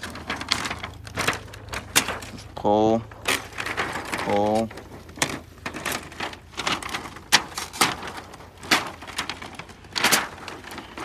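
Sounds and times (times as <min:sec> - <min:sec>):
plastic and paper sheets tearing: 0:00.0 - 0:11.0.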